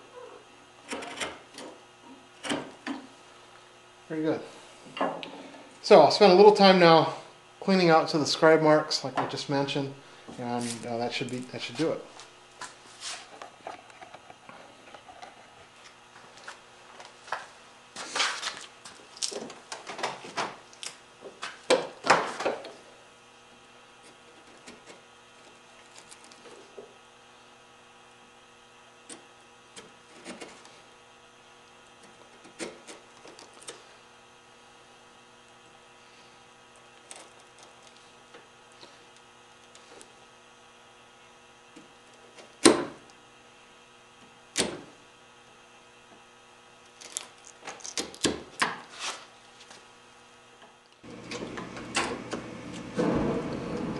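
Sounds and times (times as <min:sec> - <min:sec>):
steady electrical hum: 0:00.0 - 0:53.9.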